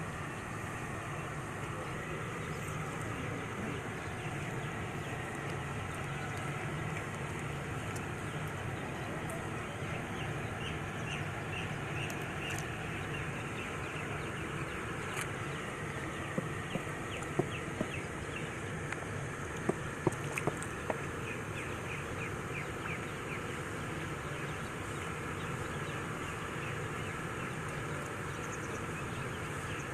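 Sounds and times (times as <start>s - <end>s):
low hum: 0.0s - 29.9s.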